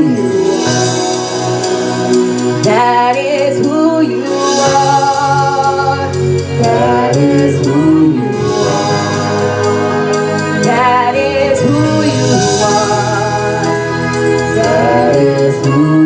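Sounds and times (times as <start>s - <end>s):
group singing gospel song: 0.0s - 16.0s
instrumental accompaniment: 0.0s - 16.0s.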